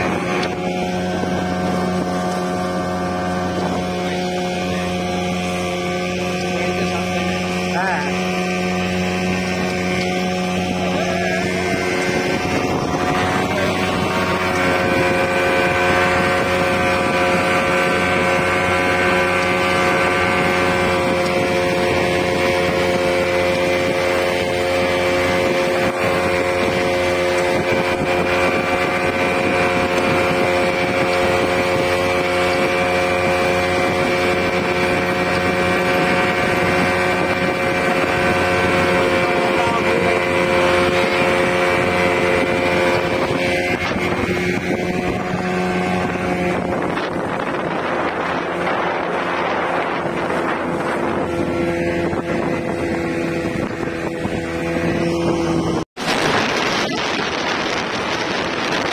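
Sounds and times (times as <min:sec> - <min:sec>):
outboard motor running: 0:00.0 - 0:58.9
water rushing: 0:00.0 - 0:58.9
wind on microphone: 0:00.0 - 0:58.9.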